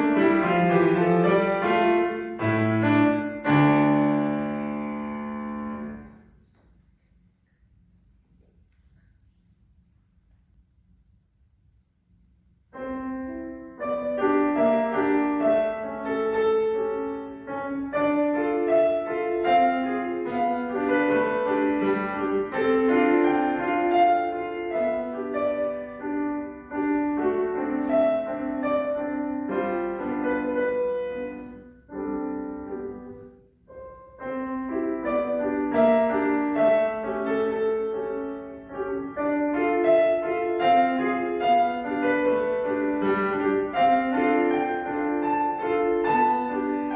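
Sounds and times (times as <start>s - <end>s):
solo classical piano: 0.0s - 11.1s, 12.0s - 46.9s.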